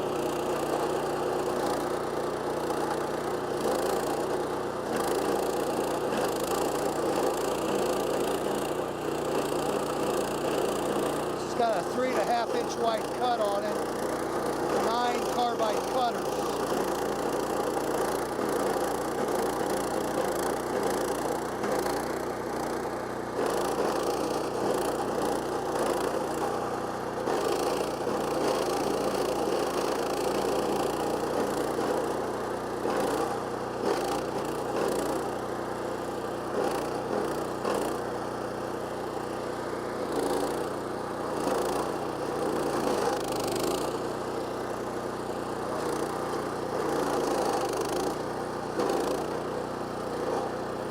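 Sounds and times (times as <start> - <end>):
cutting wheel grinding wood: 0.0 - 50.9
stump grinder engine running: 0.0 - 50.9.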